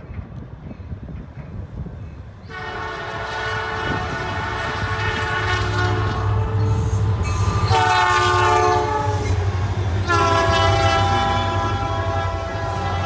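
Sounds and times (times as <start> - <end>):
low rumble of train: 0.0 - 13.0
locomotive air horn blasts: 2.5 - 13.0.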